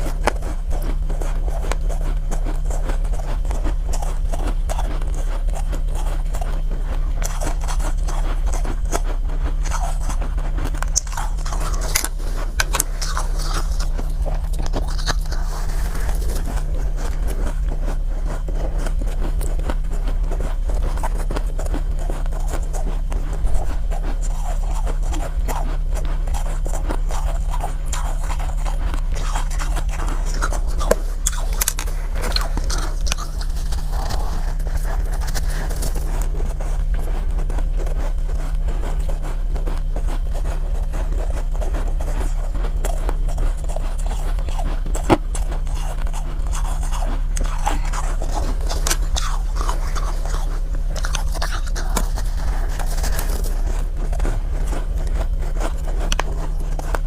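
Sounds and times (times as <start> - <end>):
chewing ice crunching: 0.0 - 57.0
scraping: 0.0 - 57.0
steady low hum: 0.0 - 57.0.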